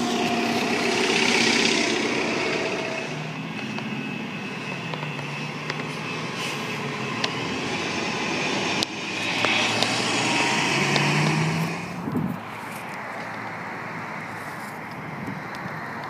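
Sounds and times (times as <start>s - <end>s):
bus engine drone and whine: 0.0s - 16.0s.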